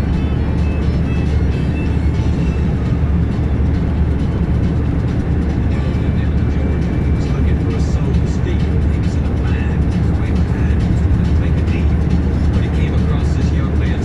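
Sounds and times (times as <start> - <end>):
road noise: 0.0 - 14.0
truck engine rumble: 0.0 - 14.0.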